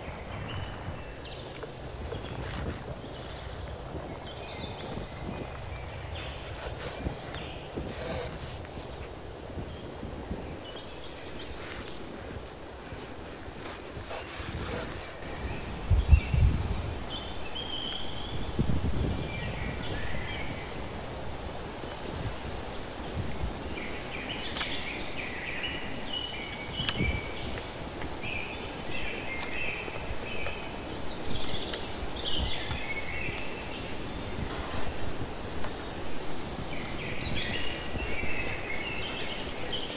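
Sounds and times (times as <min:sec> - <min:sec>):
small birds chirping: 0:00.0 - 0:20.8, 0:21.7 - 0:39.9.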